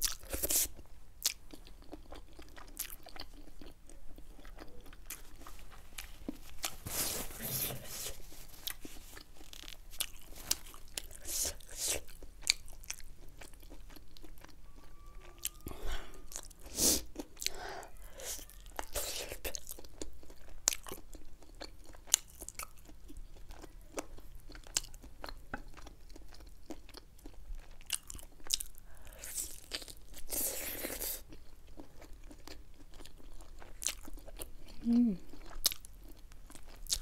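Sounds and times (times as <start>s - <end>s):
chewing fried chicken crunches: 0.0s - 6.8s, 8.6s - 37.0s.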